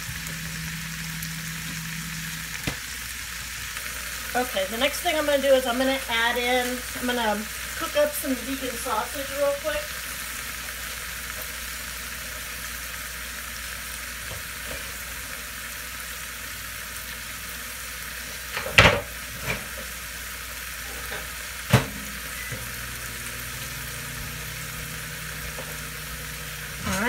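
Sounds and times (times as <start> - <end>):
vegetables sizzling in a skillet: 0.0 - 27.0.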